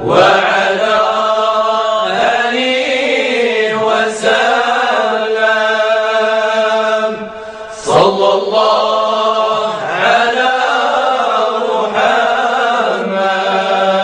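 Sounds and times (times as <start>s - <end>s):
devotional hymn chanted: 0.0s - 14.0s.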